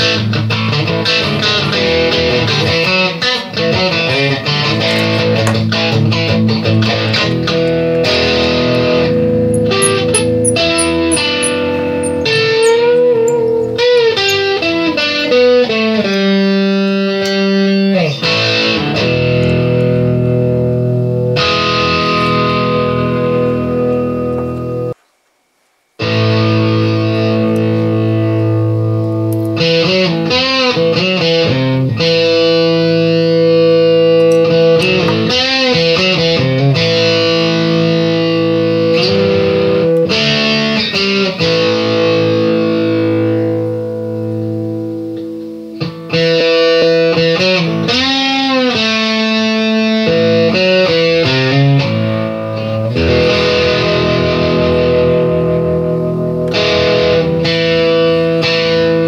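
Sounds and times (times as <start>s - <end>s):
distorted electric guitar: 0.0s - 25.0s, 26.0s - 59.0s.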